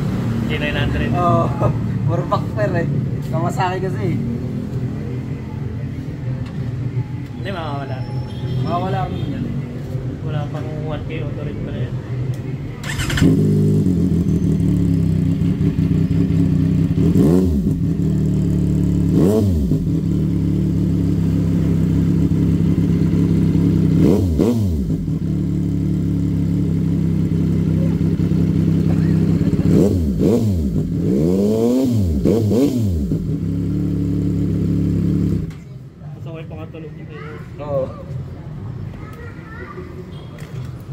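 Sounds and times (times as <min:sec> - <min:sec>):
motorcycle engine idling and revving: 0:00.0 - 0:07.1, 0:10.2 - 0:36.9.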